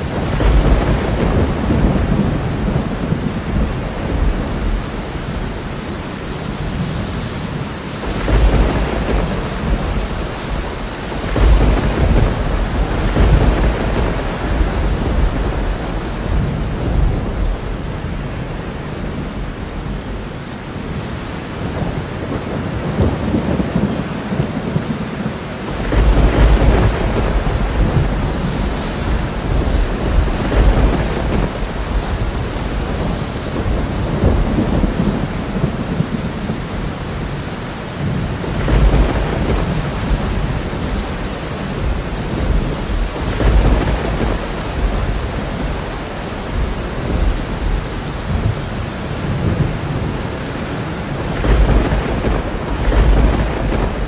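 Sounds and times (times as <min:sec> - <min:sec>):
thunder rolling: 0:00.0 - 0:07.1, 0:08.0 - 0:20.2, 0:21.7 - 0:54.0
heavy rain: 0:00.0 - 0:54.0.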